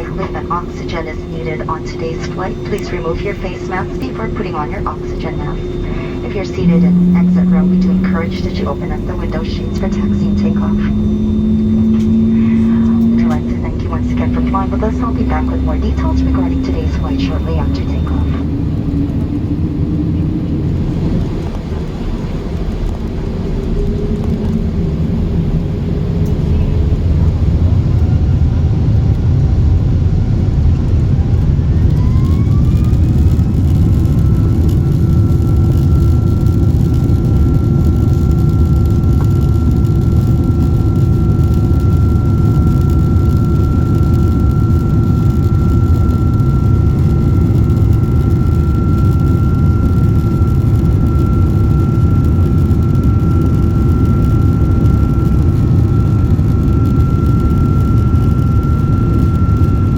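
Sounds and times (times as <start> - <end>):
jet engine whine: 0.0 - 59.9
jet engines rumbling: 0.0 - 59.9.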